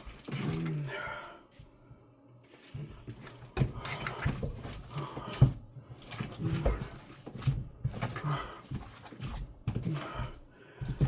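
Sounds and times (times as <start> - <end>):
hands squelching meat mixture: 0.0 - 11.0.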